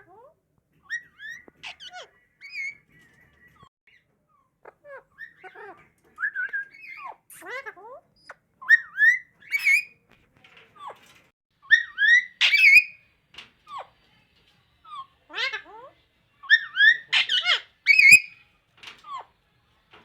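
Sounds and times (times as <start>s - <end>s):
parakeet whistles and chatter: 0.0s - 20.0s.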